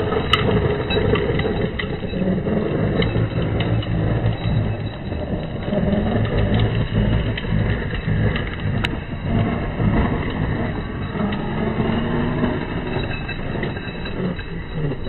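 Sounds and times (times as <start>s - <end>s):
tyres scrabbling: 0.0s - 15.0s.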